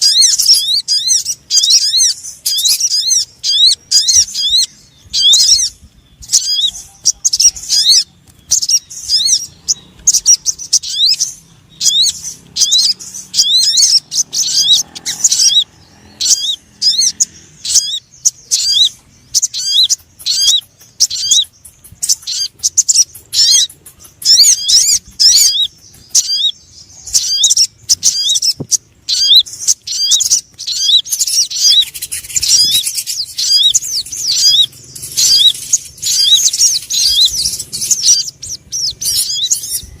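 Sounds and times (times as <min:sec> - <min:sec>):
sunbird chirping song: 0:00.0 - 0:40.0.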